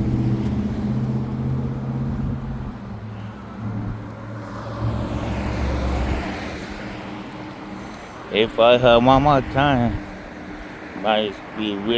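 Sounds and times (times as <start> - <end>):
car engine hum: 0.0 - 11.9
tyre and road rush: 0.0 - 11.9.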